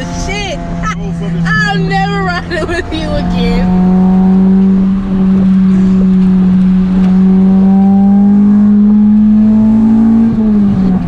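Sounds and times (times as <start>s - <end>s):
car engine droning in cabin: 0.0s - 11.0s.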